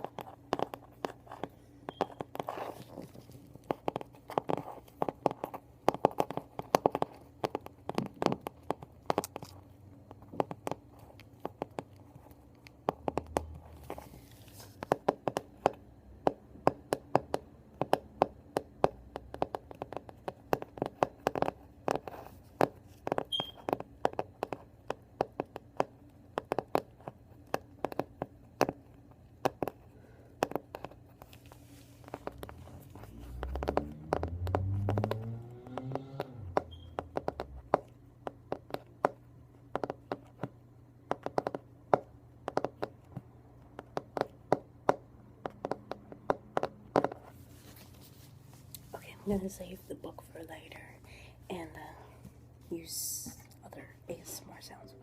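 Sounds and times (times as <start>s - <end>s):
fingernails tapping on a book: 0.0s - 14.1s, 14.7s - 31.4s, 32.0s - 47.3s.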